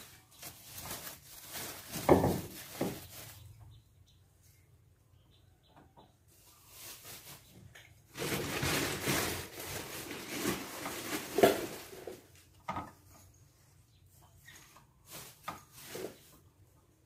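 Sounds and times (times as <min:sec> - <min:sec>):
rustling: 0:00.0 - 0:03.8, 0:06.3 - 0:17.0.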